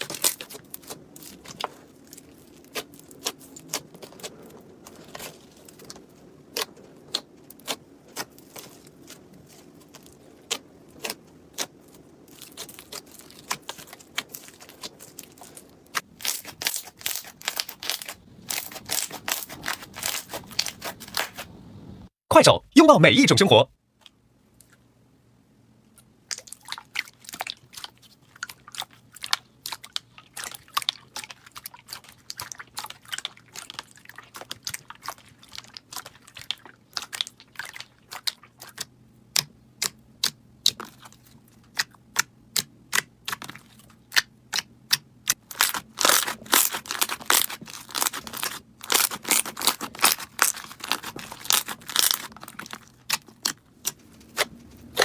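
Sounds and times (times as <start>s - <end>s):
slime clicking and crackling: 0.0s - 21.4s, 26.3s - 55.0s.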